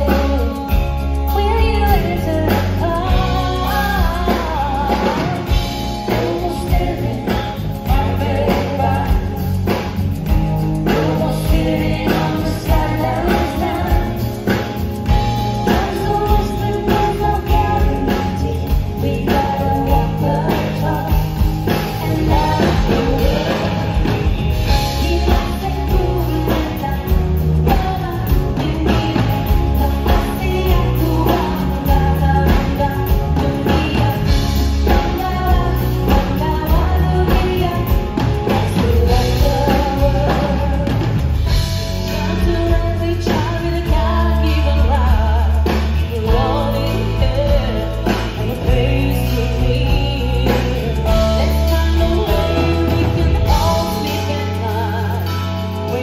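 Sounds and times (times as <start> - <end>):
bass line: 0.0 - 56.0
drum kit: 0.0 - 56.0
electric guitar: 0.0 - 56.0
person singing: 0.0 - 56.0.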